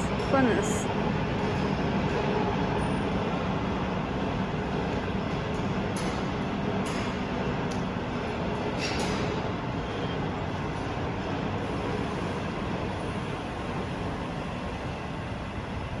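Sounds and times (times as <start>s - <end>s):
industrial machinery hum and rush: 0.0s - 16.0s.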